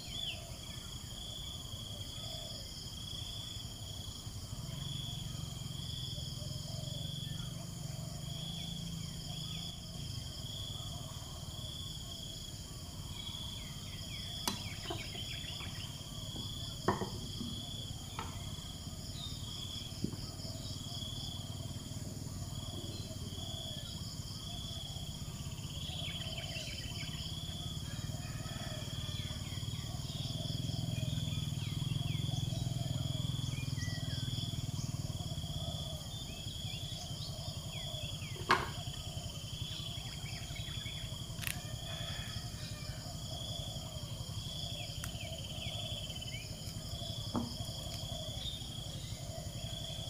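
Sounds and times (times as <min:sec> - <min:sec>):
high insect trill: 0:00.0 - 0:50.0.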